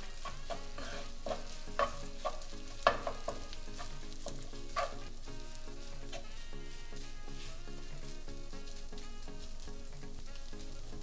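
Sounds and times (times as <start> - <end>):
food sizzling in frying pan: 0.0 - 11.0
spatulas scraping and knocking pan: 0.0 - 11.0.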